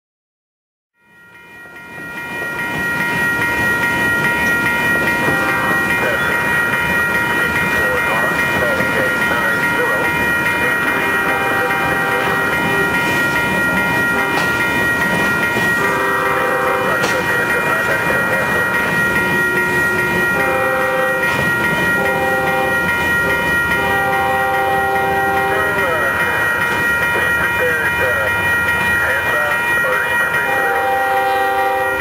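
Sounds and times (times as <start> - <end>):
train wheels clacking on rails: 1.6 - 32.0.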